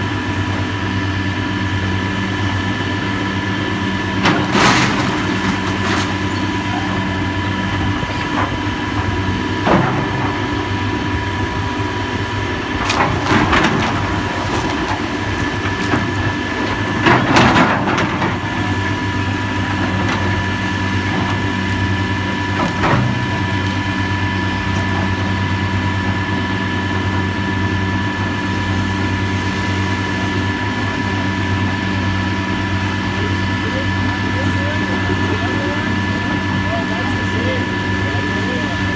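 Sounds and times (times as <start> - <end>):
heavy demolition machinery running: 0.0 - 38.9.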